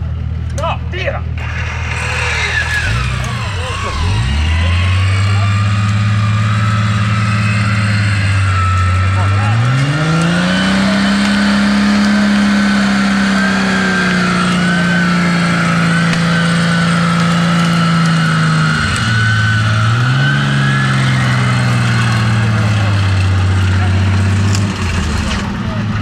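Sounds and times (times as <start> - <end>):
high wavering whine: 1.3 - 24.2
engine revving in mud: 1.4 - 26.0.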